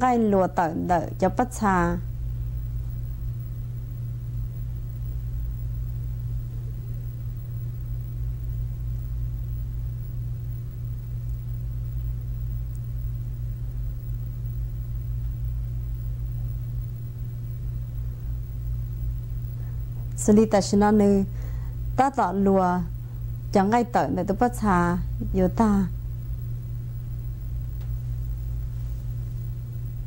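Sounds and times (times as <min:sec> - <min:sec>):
low electrical hum: 0:00.0 - 0:30.0
light hiss: 0:00.5 - 0:22.2, 0:22.8 - 0:30.0.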